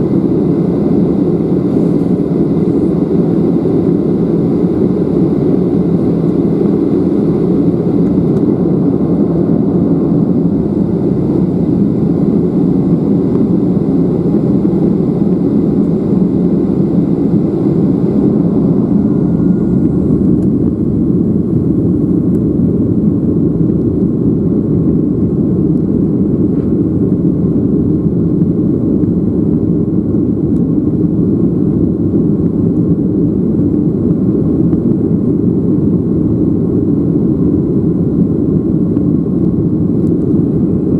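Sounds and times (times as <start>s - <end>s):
jet engines at takeoff power: 0.0s - 40.9s.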